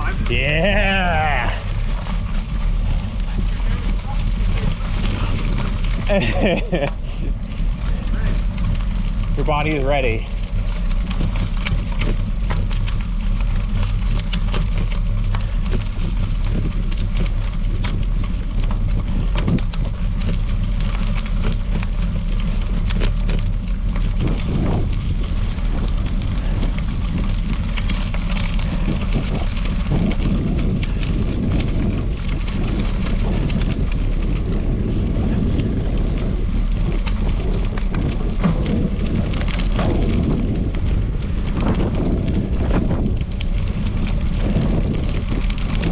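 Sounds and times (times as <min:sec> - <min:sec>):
bicycle tyres on gravel: 0:00.0 - 0:45.9
wind buffeting microphone: 0:00.0 - 0:45.9.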